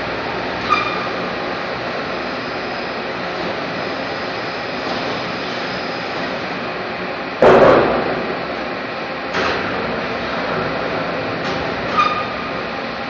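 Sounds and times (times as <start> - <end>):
industrial factory din: 0.0 - 13.0.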